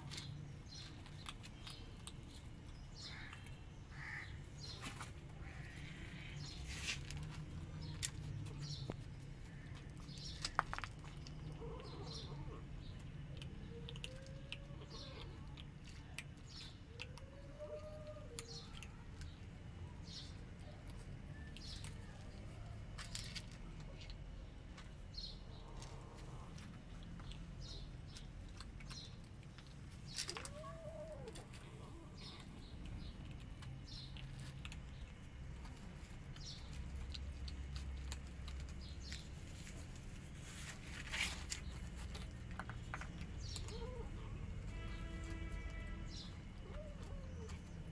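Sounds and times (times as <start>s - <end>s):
kittens crunching dry kibble: 0.0s - 47.9s.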